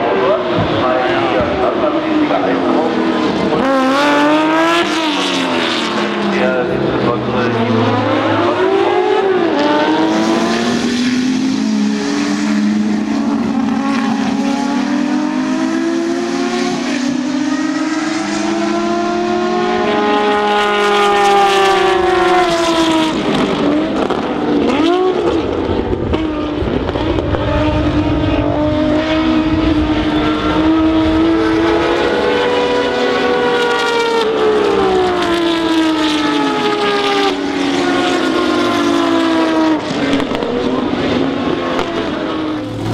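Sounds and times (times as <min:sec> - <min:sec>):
race car engines passing: 0:00.0 - 0:42.9.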